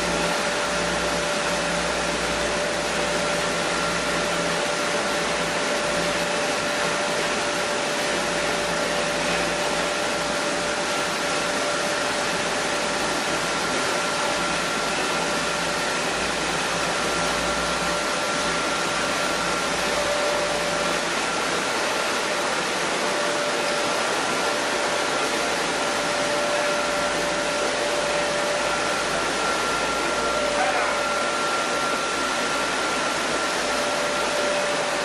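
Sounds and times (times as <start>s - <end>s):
whining machine tones: 0.0s - 35.0s.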